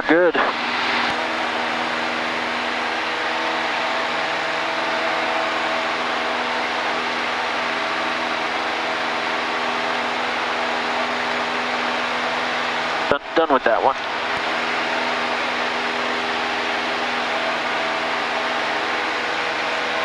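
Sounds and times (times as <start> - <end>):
piston aircraft engine drone: 0.0 - 20.0.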